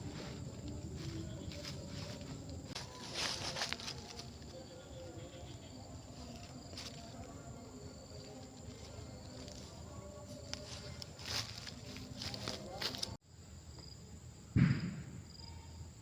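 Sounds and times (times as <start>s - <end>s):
rustles and crackles: 0.0s - 13.2s
insects trilling: 0.0s - 16.0s.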